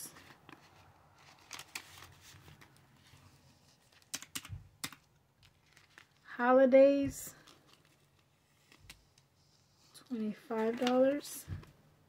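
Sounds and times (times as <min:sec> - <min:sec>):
paper envelopes rustling: 0:00.0 - 0:06.3, 0:07.3 - 0:11.8.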